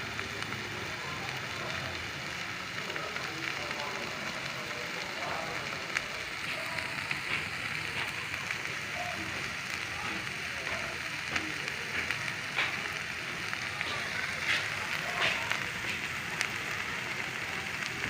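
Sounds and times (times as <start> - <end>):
meat sizzling in a pan: 0.0 - 18.0
sharp pops and crackles: 0.0 - 18.0.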